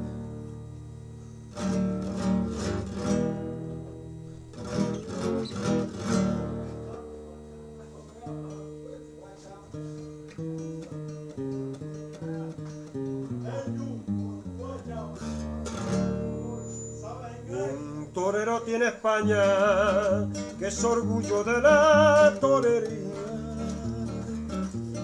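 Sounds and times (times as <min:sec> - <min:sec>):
acoustic guitar strumming chords: 0:00.0 - 0:25.0
guitar picking single notes: 0:00.0 - 0:25.0.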